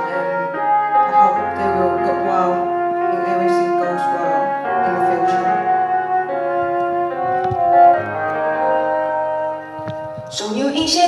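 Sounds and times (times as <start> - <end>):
slow instrumental ballad: 0.0 - 10.5.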